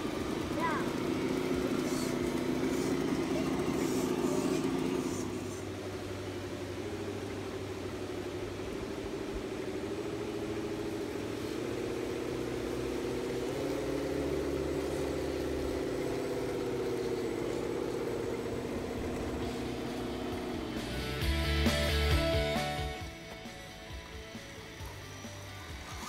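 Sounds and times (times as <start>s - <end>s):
electric motor whine: 0.0s - 26.0s.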